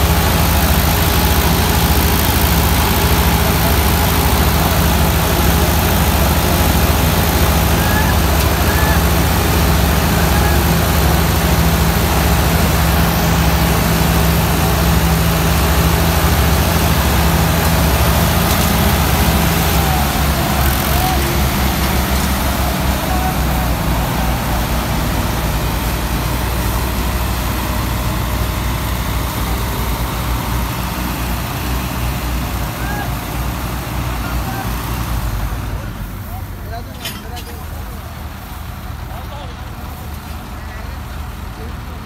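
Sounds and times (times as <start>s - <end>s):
heavy diesel engines under load: 0.0s - 42.0s.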